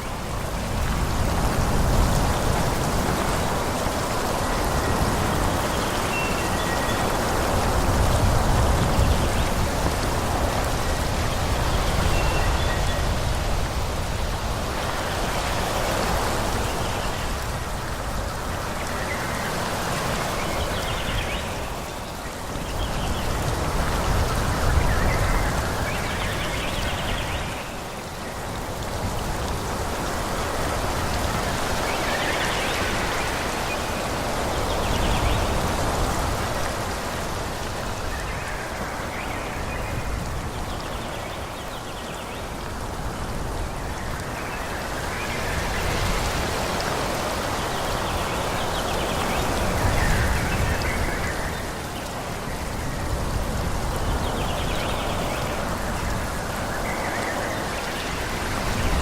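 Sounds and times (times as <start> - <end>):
wind rushing through trees: 0.0 - 59.0.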